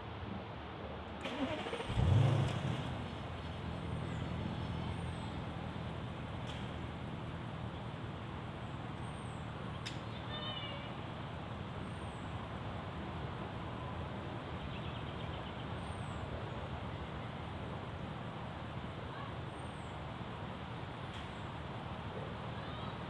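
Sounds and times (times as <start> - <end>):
car running rumble and hiss: 0.6 - 23.0.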